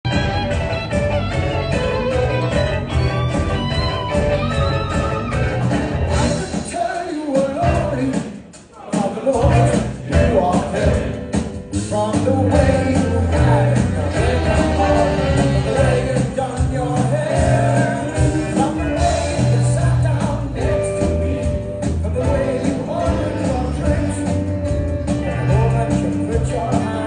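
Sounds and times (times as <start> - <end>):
rock song with singing: 0.1 - 27.0.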